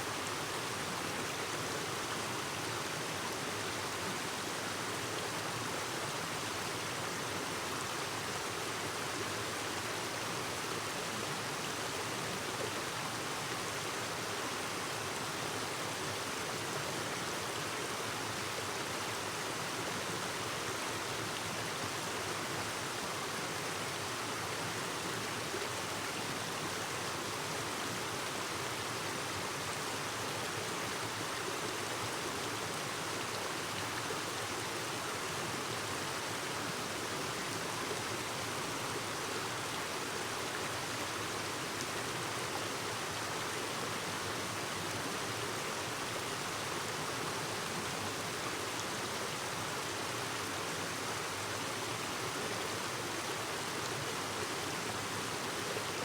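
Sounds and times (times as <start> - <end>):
river babbling: 6.4 - 56.0.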